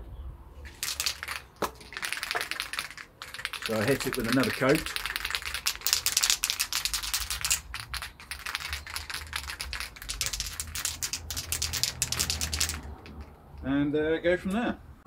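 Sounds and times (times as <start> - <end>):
spray can rattling when shaken: 0.6 - 13.6.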